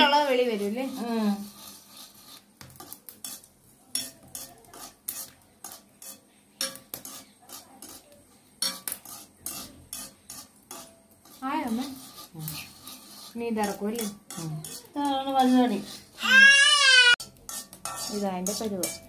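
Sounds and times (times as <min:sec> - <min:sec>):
metal spoon scraping a pan: 0:00.0 - 0:19.0.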